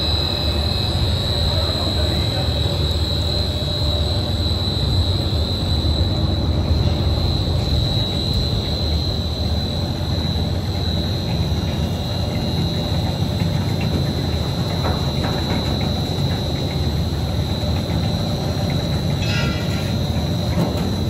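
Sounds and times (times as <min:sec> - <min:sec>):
high-pitched machine whine: 0:00.0 - 0:21.0
machinery low hum: 0:00.0 - 0:21.0.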